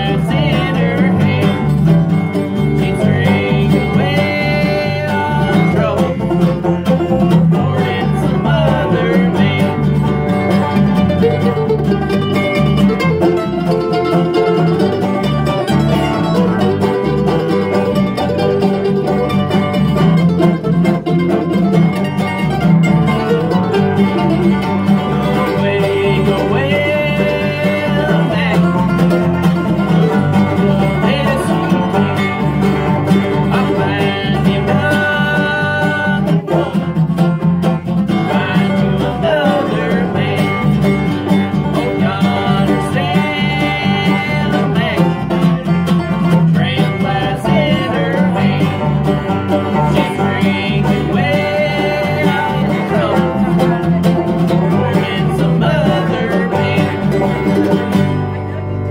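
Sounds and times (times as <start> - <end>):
bluegrass band playing: 0.0 - 58.9.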